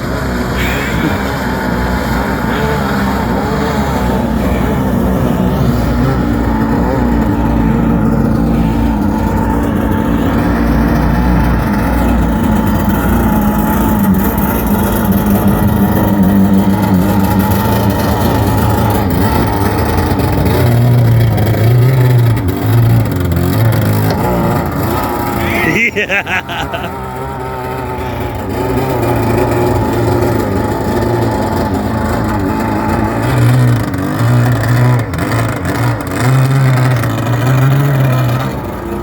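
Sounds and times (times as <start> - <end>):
boat engine running hard: 0.0 - 39.0.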